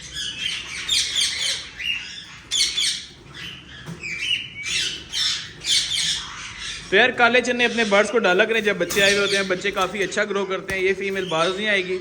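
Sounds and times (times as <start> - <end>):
parrots squawking and chirping: 0.0 - 12.0.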